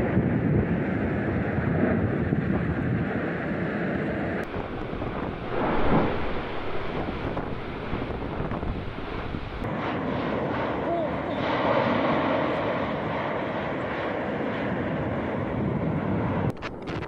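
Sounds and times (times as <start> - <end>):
wind buffeting microphone: 0.0 - 9.7, 11.4 - 17.0
volcano rushing roar: 0.1 - 17.0.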